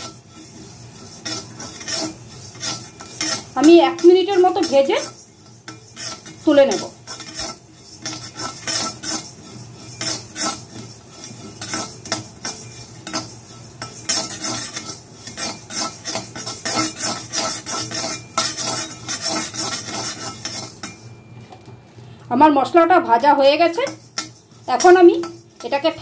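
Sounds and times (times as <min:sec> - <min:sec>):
spatula scraping roasting seeds: 0:00.0 - 0:26.0.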